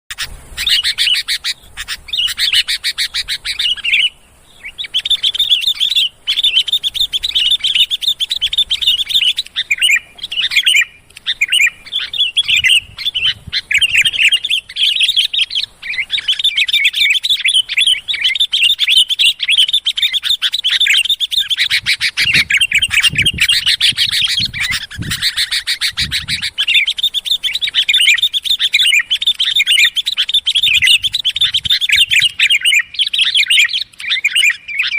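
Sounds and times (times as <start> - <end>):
birds chirping and whistling: 0.1 - 34.9.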